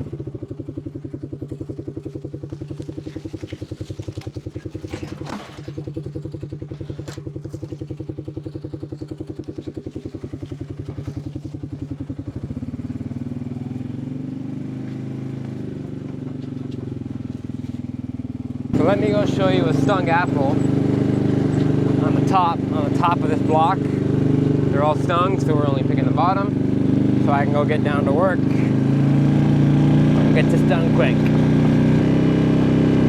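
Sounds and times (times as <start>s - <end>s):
farm vehicle engine running: 0.0s - 33.0s.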